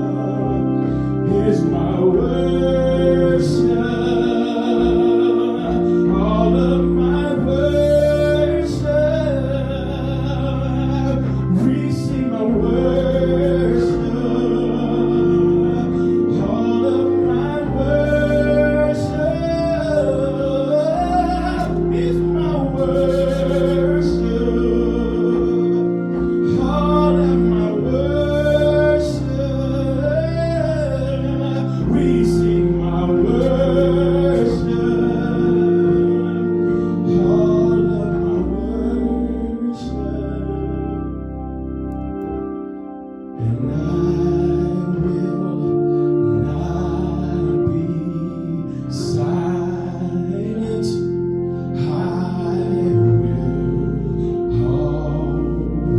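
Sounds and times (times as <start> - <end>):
gospel worship song: 0.0 - 55.9.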